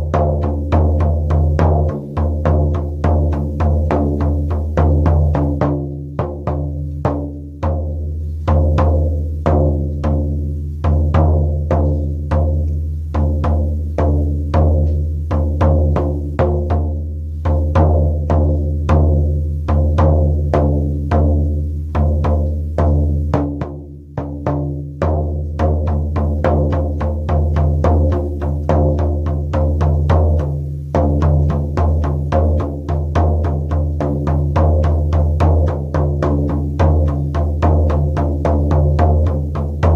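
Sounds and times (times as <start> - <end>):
frame drum beaten in rhythm: 0.0 - 39.9.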